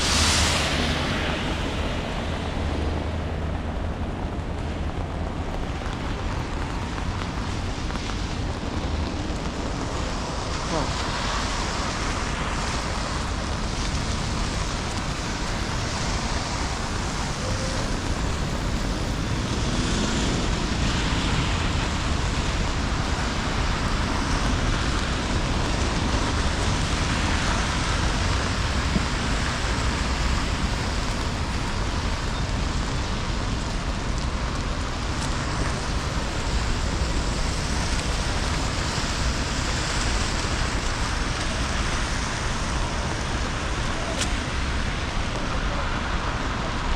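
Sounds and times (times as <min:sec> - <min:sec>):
rain hiss: 0:00.0 - 0:46.9
traffic on wet roads: 0:00.0 - 0:46.9.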